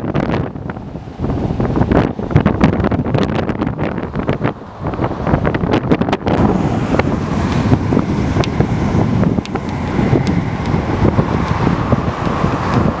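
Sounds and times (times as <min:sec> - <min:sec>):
steady rushing noise: 0:00.0 - 0:13.0
wind buffeting microphone: 0:00.0 - 0:13.0.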